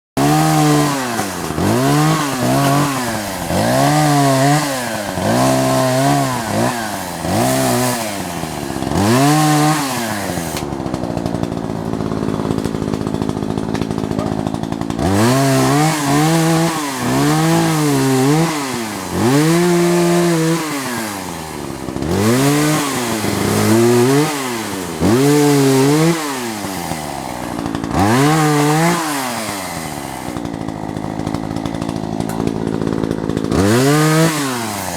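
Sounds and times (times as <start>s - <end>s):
chainsaw revving and idling: 0.1s - 34.9s.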